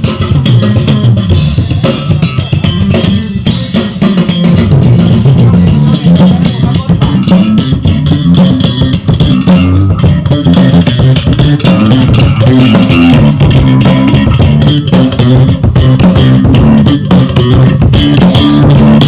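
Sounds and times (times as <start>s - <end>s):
electric bass line: 0.0s - 19.0s
live rock music through amplifiers: 0.0s - 19.0s.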